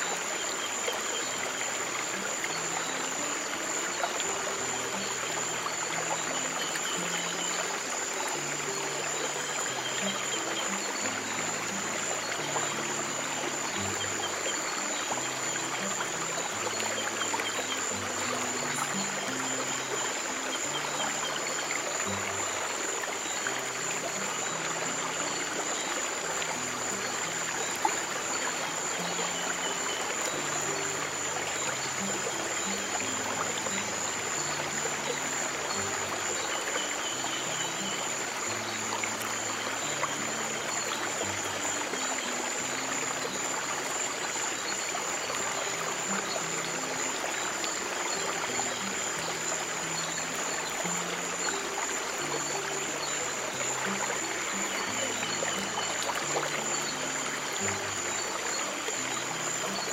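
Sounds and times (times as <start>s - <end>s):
stream of water running: 0.0s - 59.9s.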